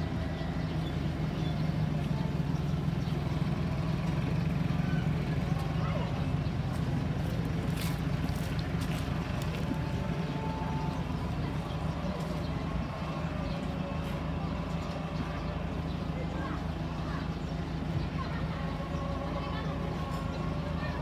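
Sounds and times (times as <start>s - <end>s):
street noise: 0.0s - 21.0s
vehicle engine running: 0.0s - 21.0s.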